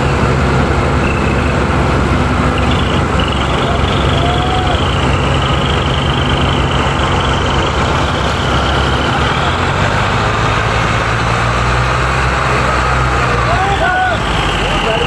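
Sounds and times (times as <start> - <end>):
tractor engines running hard: 0.0 - 15.0.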